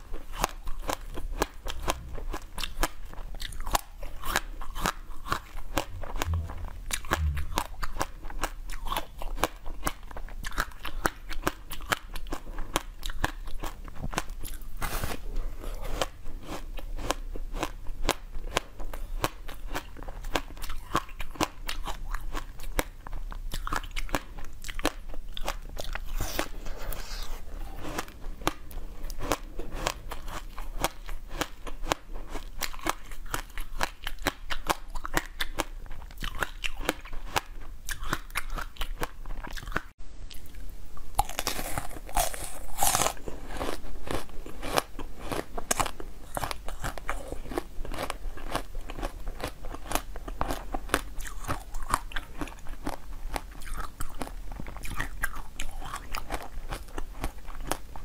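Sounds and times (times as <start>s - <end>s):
ice crunching and chewing: 0.0s - 6.4s, 8.7s - 40.6s, 41.2s - 58.0s.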